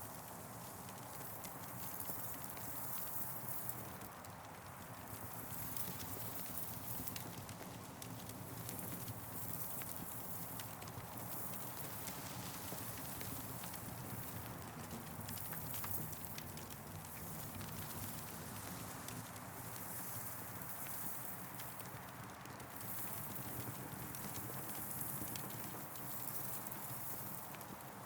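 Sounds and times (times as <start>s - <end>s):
campfire crackling and popping: 3.8s - 28.0s.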